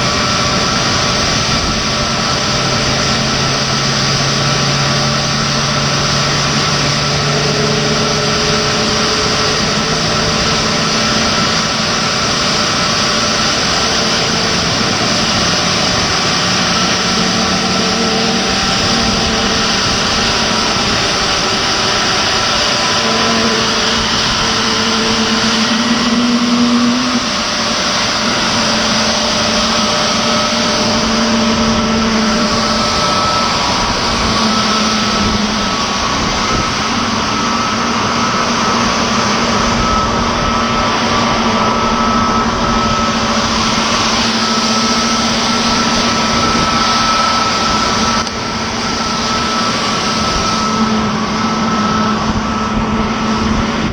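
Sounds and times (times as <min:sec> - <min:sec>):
faint whining tones: 0:00.0 - 0:53.9
jet turbine idling: 0:00.0 - 0:53.9.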